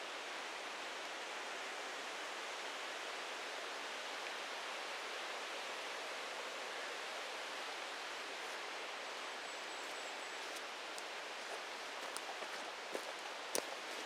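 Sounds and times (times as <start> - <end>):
mountain creek rushing: 0.0 - 14.0.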